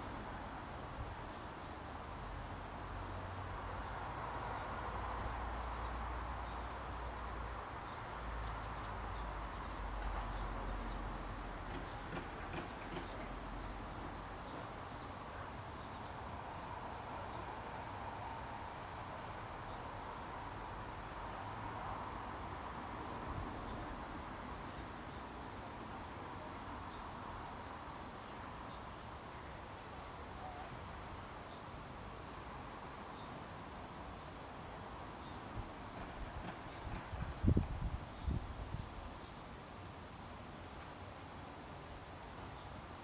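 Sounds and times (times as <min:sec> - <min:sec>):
outdoor background hiss: 0:00.0 - 0:43.0.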